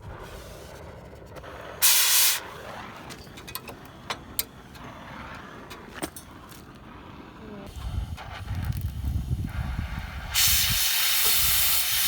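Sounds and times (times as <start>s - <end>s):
cutting torch hissing: 0.0s - 12.0s
flame popping and crackling: 0.0s - 12.0s
rush of gas: 0.0s - 12.0s.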